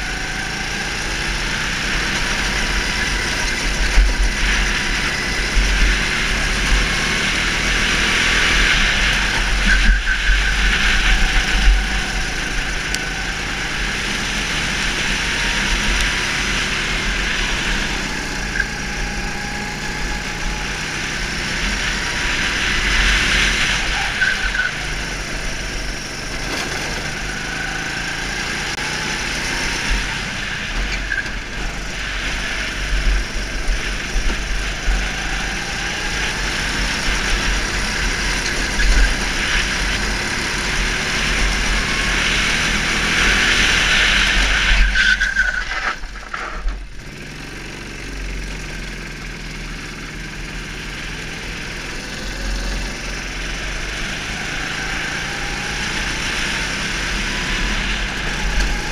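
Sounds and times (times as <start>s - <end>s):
go-kart engine revving: 0.0s - 58.9s.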